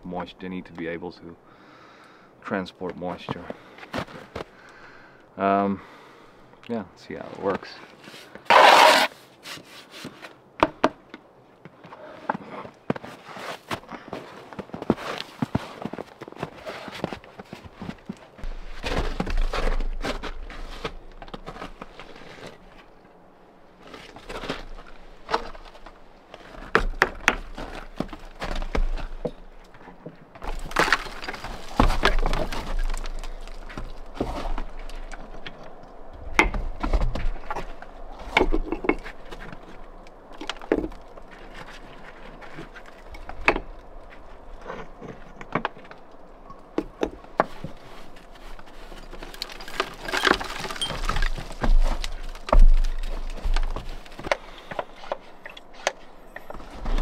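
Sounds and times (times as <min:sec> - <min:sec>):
gritty scrapes: 0:07.1 - 0:10.4, 0:11.8 - 0:23.0, 0:23.8 - 0:46.2, 0:47.2 - 0:57.0.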